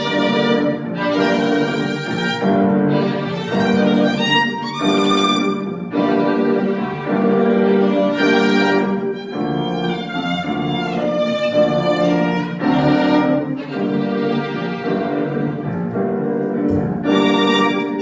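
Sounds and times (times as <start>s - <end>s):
violin melody with vibrato: 0.0s - 18.0s.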